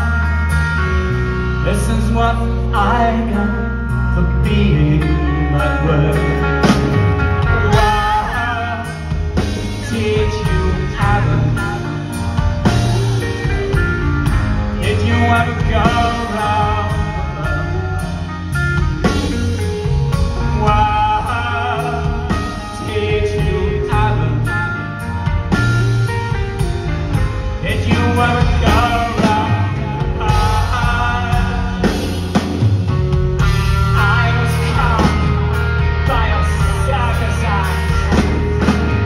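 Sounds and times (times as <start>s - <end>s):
rock band playing live: 0.0s - 39.0s
man singing: 1.4s - 25.4s, 27.4s - 39.0s.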